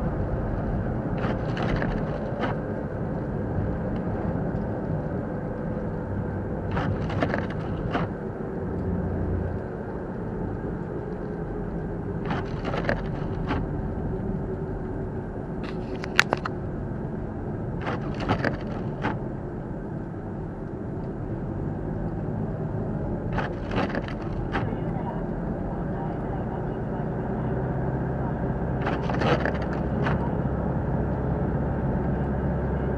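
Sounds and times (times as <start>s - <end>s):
car driving on snowy road: 0.0s - 32.9s.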